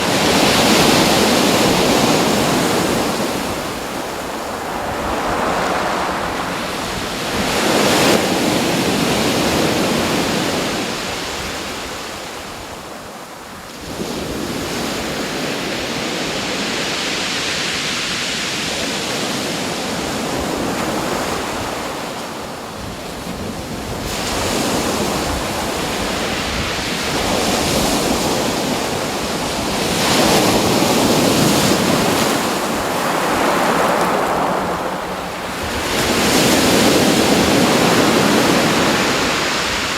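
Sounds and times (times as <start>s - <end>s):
ocean waves: 0.0s - 39.9s.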